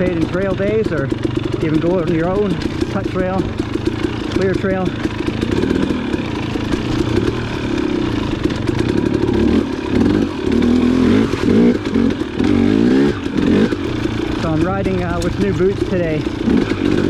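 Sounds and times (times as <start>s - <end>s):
clatter: 0.0s - 17.0s
dirt bike engine revving: 0.0s - 17.0s.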